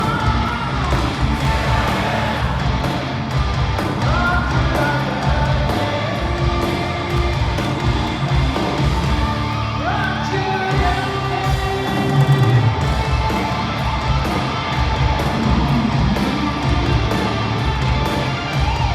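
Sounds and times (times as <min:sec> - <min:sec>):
crowd yelling along: 0:00.0 - 0:18.9
electric guitars: 0:00.0 - 0:18.9
pounding bass: 0:00.0 - 0:18.9.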